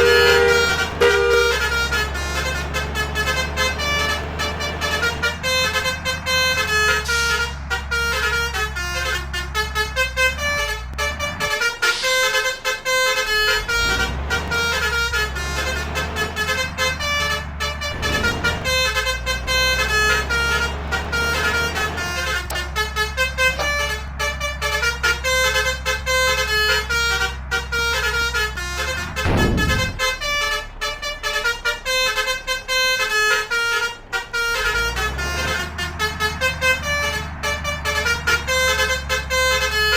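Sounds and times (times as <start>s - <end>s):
bus engine running: 0.0s - 39.9s
bus horn playing melody: 0.0s - 39.9s.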